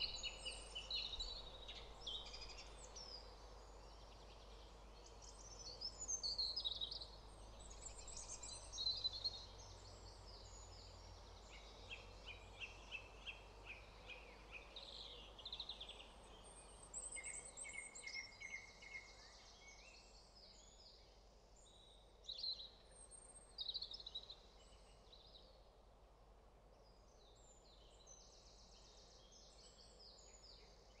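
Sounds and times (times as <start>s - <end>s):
faint songbird chorus: 0.0s - 31.0s.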